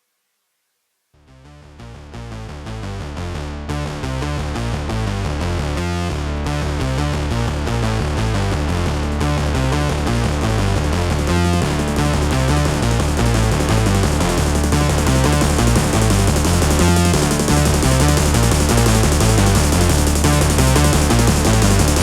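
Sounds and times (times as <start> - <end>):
electronic music with synthesizer: 1.9 - 22.0.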